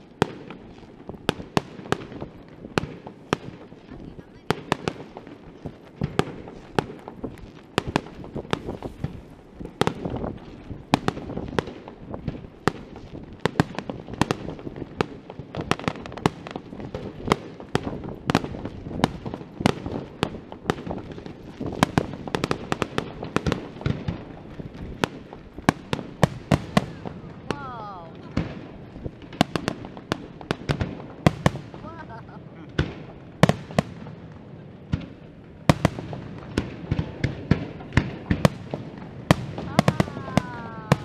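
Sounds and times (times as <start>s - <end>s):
fireworks bursting with sharp bangs: 0.0s - 41.0s.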